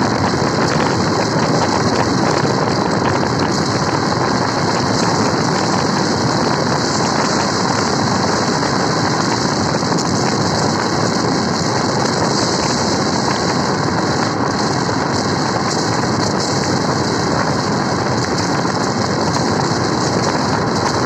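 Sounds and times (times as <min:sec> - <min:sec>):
wind and road noise of car: 0:00.0 - 0:21.0.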